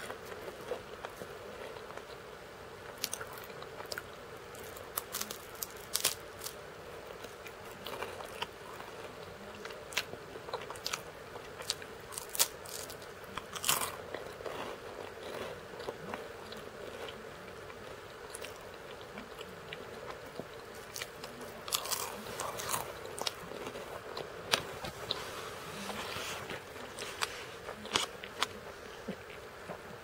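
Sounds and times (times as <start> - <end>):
crackers being chewed: 0.0 - 30.0
faint steady hum: 0.0 - 30.0.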